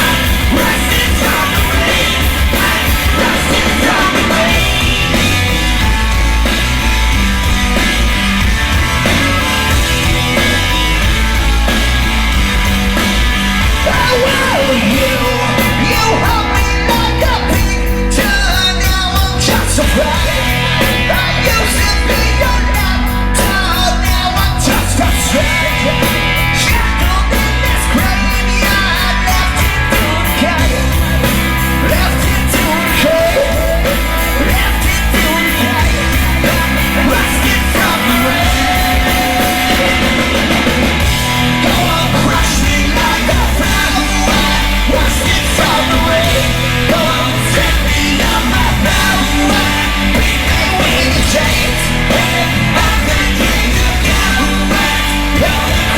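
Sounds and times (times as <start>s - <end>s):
man singing and shouting: 0.0s - 5.6s, 13.7s - 55.9s
bass guitar: 0.0s - 55.9s
distorted electric guitars: 0.0s - 55.9s
drums: 0.0s - 55.9s.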